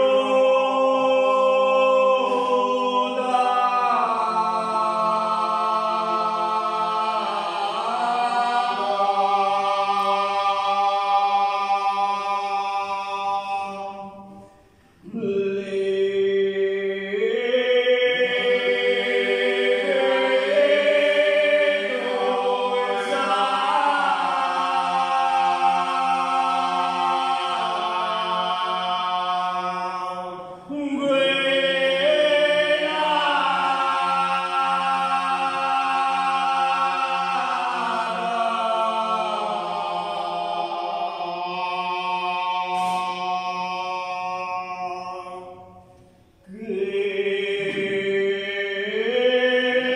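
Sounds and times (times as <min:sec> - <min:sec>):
group singing unaccompanied chant: 0:00.0 - 0:49.9.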